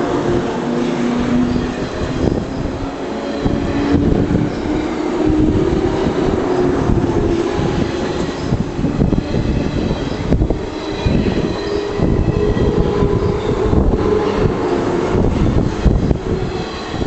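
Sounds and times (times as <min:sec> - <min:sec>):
electric train motors humming: 0:00.0 - 0:17.0
wheels rumbling on track: 0:00.0 - 0:17.0.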